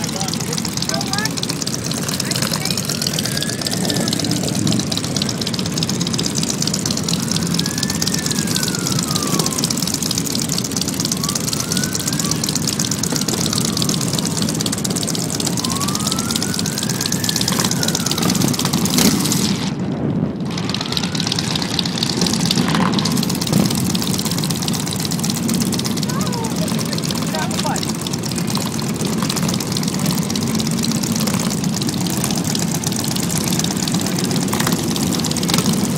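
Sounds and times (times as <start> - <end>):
motorcycle engines running: 0.0 - 35.9
siren wailing: 0.0 - 35.9.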